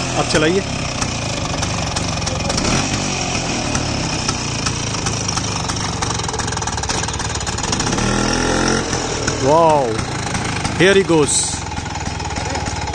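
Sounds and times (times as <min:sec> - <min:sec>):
scooter engine idling: 0:00.0 - 0:12.9.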